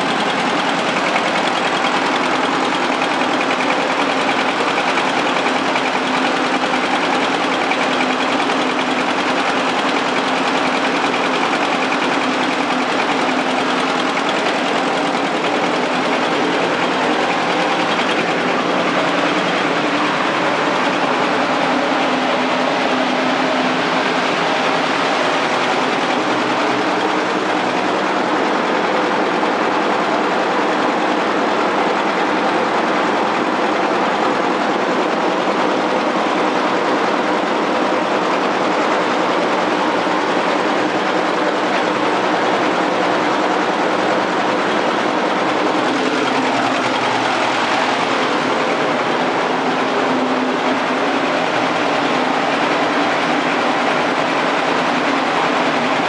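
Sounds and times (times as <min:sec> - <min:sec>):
blower fan rushing air: 0:00.0 - 0:56.0.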